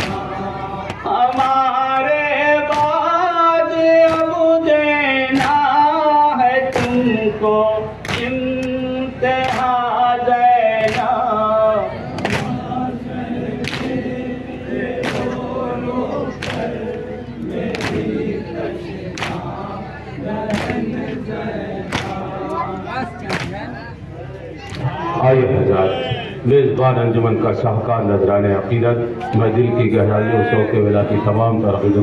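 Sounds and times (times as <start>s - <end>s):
chorus of people chanting: 0.0s - 26.6s.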